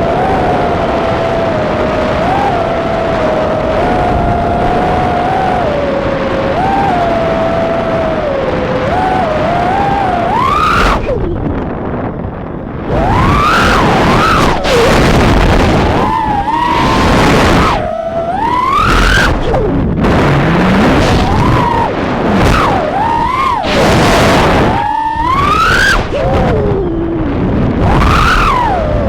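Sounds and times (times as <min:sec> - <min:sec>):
quadcopter motors whining: 0:00.0 - 0:29.0
rushing noise: 0:00.0 - 0:29.0.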